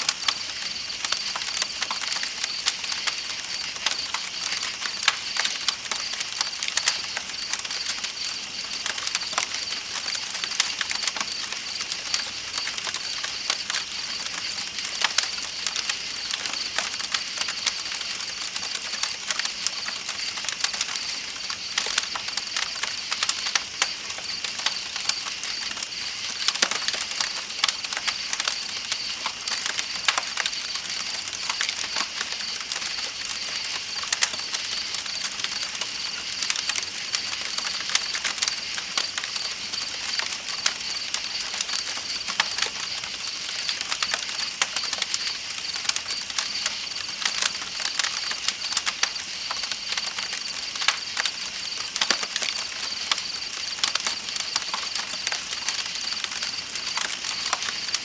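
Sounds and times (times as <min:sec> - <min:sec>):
night insects trilling: 0:00.0 - 0:58.0
campfire crackling: 0:00.1 - 0:58.0.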